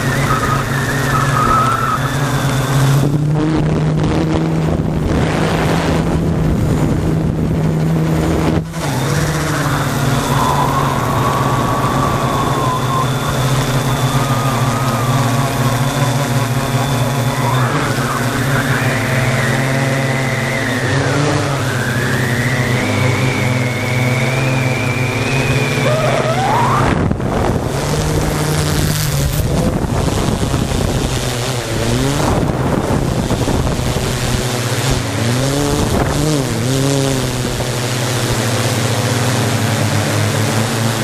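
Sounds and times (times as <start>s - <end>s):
drone propellers buzzing: 0.0s - 41.0s
rush of air noise: 2.0s - 40.6s.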